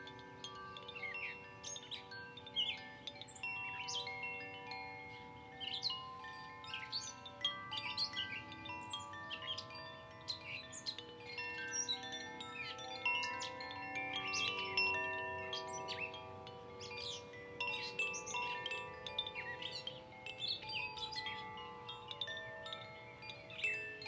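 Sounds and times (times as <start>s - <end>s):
songbirds chirping: 0.0s - 24.0s
wind chimes ringing: 0.0s - 24.0s.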